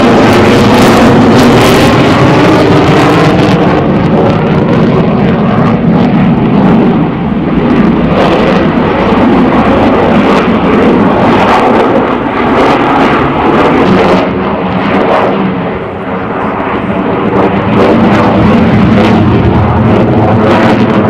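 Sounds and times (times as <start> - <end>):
fighter jet engine noise: 0.0 - 21.0.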